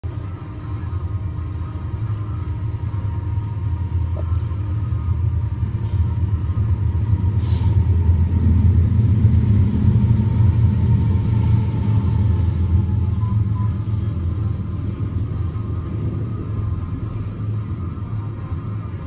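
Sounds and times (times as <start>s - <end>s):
muffled diesel locomotive rumble: 0.0s - 19.0s.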